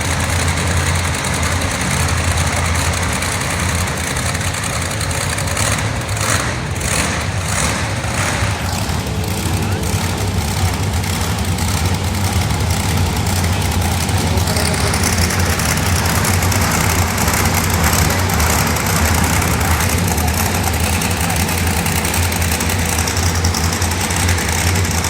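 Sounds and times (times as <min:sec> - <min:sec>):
heavy engine idling: 0:00.0 - 0:25.0.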